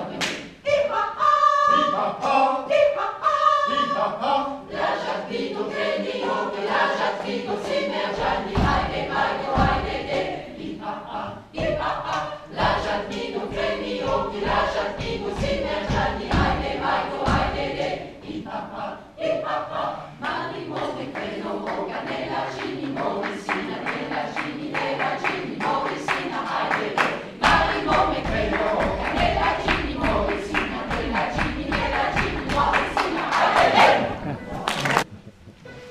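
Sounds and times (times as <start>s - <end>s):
mixed choir singing: 0.0s - 34.6s.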